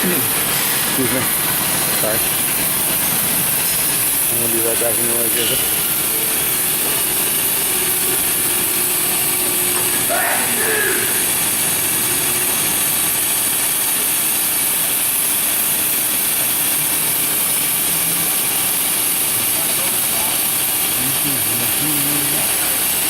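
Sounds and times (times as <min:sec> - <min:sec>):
grinder running: 0:00.0 - 0:23.0.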